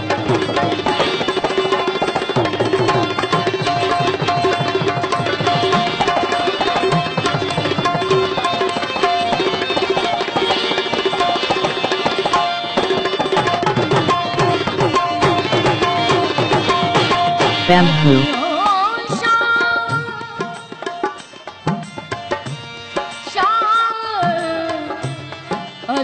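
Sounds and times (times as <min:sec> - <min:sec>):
tabla drumming: 0:00.0 - 0:26.0.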